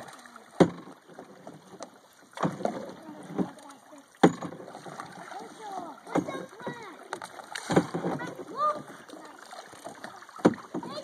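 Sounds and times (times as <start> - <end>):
paddles splashing water: 0.0 - 11.0.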